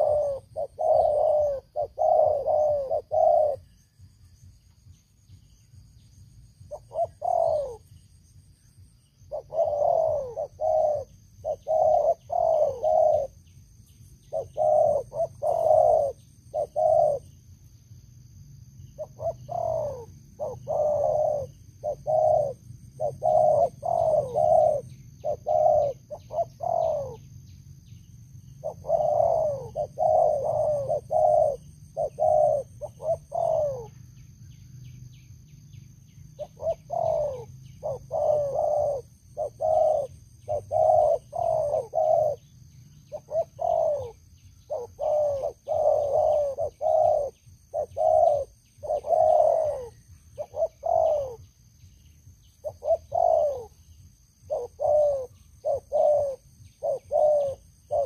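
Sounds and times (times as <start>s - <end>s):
dove cooing: 0.0s - 4.1s, 6.6s - 8.0s, 8.8s - 13.5s, 14.2s - 17.5s, 19.0s - 27.4s, 28.4s - 34.2s, 36.4s - 51.6s, 52.4s - 58.0s.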